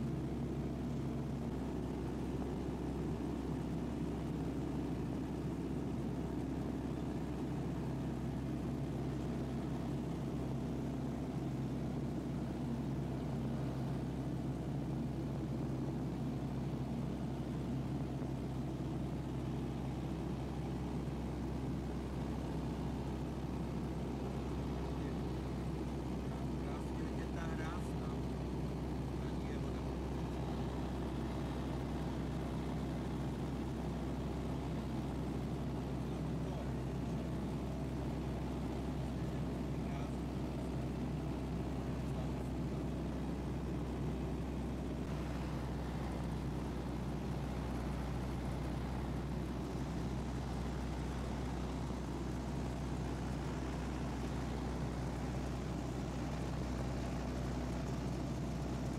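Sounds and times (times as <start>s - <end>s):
light aircraft engine drone: 0.0s - 58.9s.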